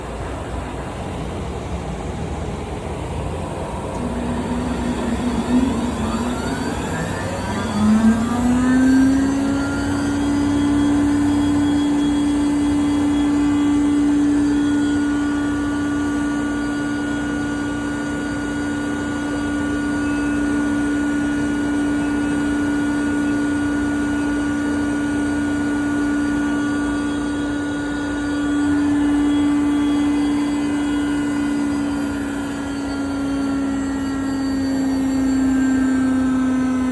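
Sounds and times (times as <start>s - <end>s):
grinder machine hum: 2.6s - 36.9s.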